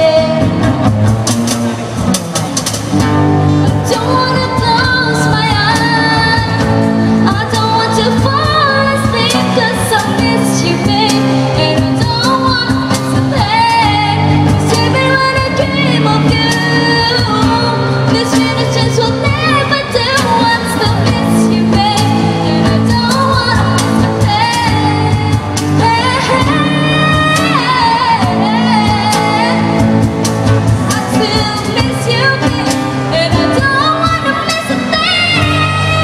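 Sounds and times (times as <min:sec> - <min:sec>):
woman singing into a microphone: 0:00.0 - 0:01.0, 0:03.3 - 0:36.0
percussion: 0:00.0 - 0:36.0.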